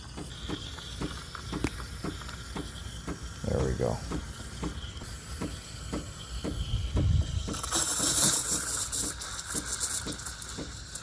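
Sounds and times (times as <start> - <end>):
steam wand hissing into milk: 0.0 - 11.0.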